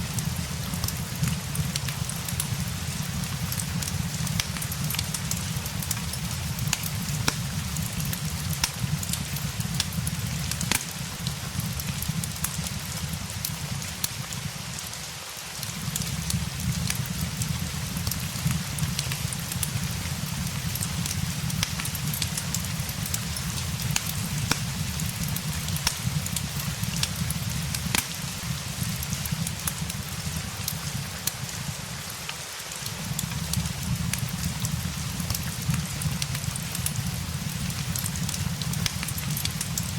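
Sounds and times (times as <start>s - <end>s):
fireplace crackling and popping: 0.0s - 39.9s
steady rain hiss: 0.0s - 39.9s.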